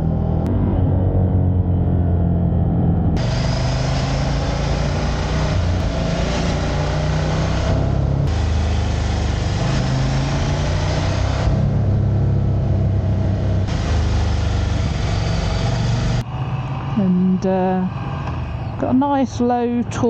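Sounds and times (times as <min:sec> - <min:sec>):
motorcycle engine revving: 0:00.0 - 0:16.3.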